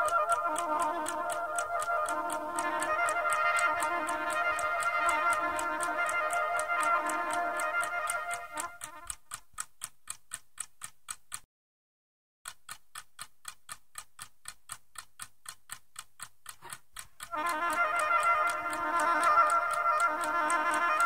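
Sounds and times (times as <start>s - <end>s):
steady ticking clicks: 0.0s - 11.5s, 12.5s - 21.0s.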